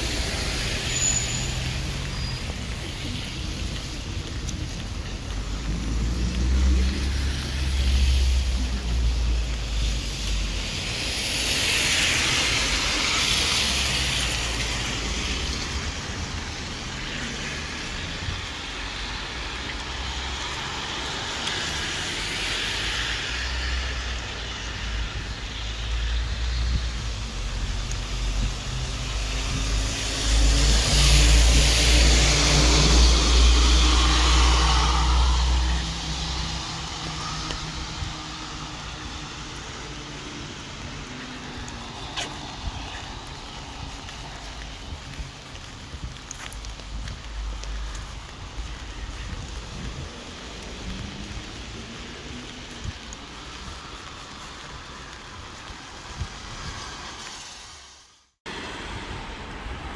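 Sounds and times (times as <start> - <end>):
car tyres hissing on wet road: 0.0 - 59.9.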